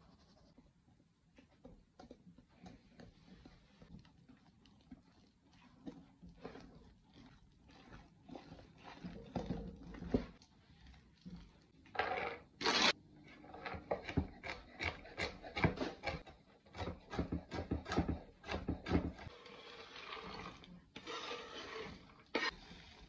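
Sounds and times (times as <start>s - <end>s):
scraping into batter: 2.5s - 17.7s, 18.6s - 23.0s.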